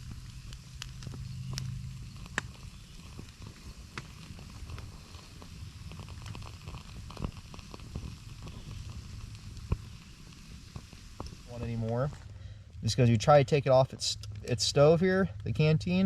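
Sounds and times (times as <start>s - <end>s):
fuel bar burning: 0.0s - 16.0s
small ticks and crackles: 0.0s - 16.0s.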